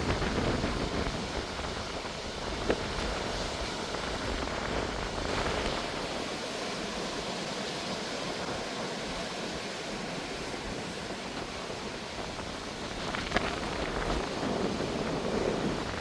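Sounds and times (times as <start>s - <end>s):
surf washing against rocks: 0.0s - 16.0s.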